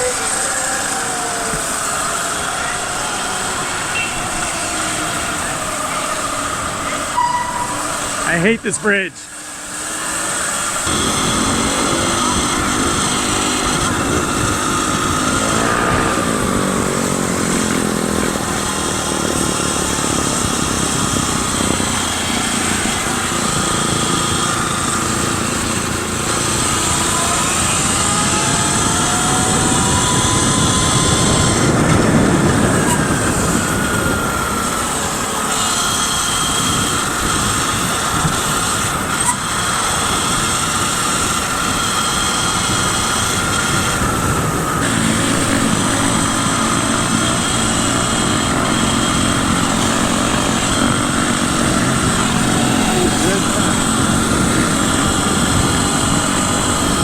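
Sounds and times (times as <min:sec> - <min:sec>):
electric bike motor whine: 0:00.0 - 0:08.4, 0:09.3 - 0:57.0
traffic noise: 0:00.0 - 0:57.0
wind: 0:00.0 - 0:57.0.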